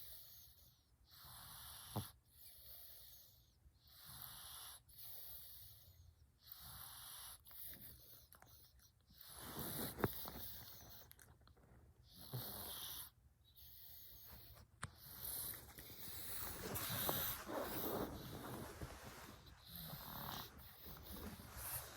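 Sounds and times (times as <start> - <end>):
cat snoring: 0.0 - 8.0, 9.1 - 11.0, 12.0 - 21.9.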